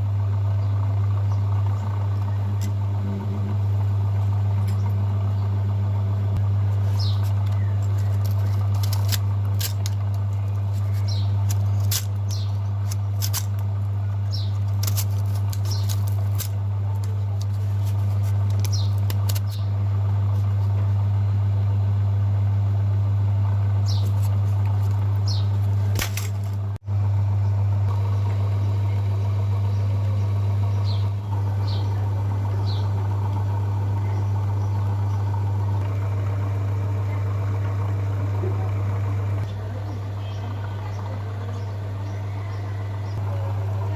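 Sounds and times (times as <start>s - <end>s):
electric motor humming: 0.0s - 43.9s.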